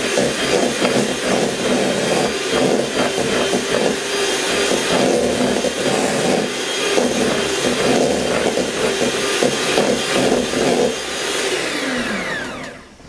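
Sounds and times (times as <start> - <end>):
beaters whipping butter in metal bowl: 0.0 - 12.9
electric hand mixer running: 0.0 - 13.0.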